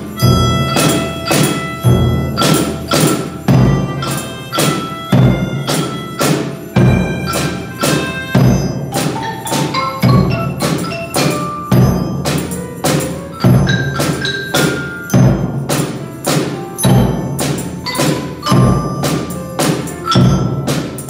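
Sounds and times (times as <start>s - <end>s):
hand bells: 0.0s - 21.0s
keyboard harmonicas: 0.0s - 21.0s
snare drum: 0.0s - 21.0s
tambourines: 0.0s - 21.0s
xylophone: 0.0s - 21.0s.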